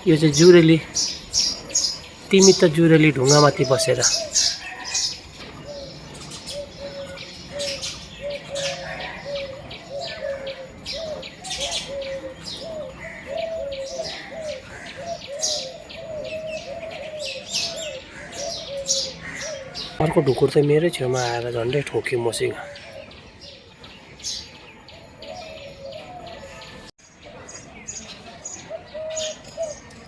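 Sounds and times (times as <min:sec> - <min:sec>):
doves cooing: 0:00.0 - 0:23.6, 0:24.3 - 0:27.5, 0:28.4 - 0:30.0
songbirds chirping: 0:00.0 - 0:30.0.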